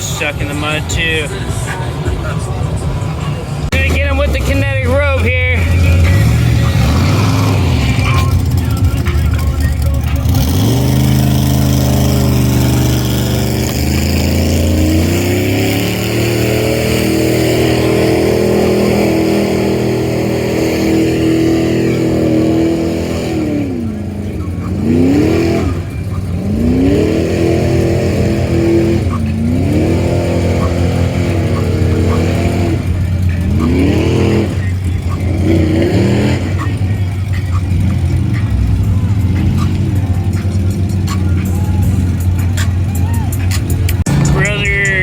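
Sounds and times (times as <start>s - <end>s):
off-road vehicle engine revving: 0.0s - 45.0s.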